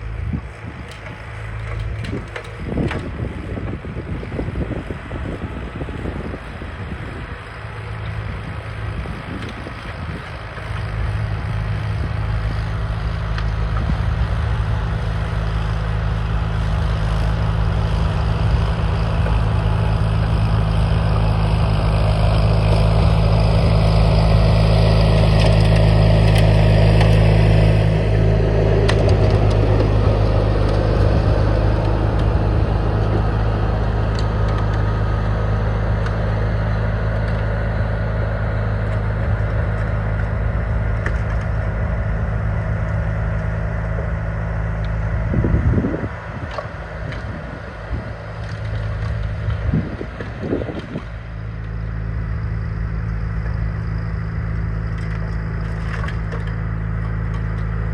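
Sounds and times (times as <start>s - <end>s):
garden tractor engine running: 0.0s - 57.9s.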